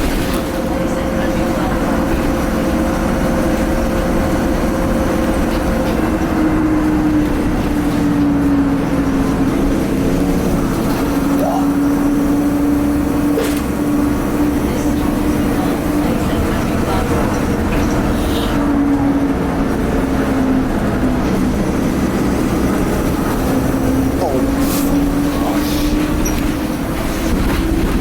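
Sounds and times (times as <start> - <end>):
bus diesel engine and road rumble: 0.0 - 28.0.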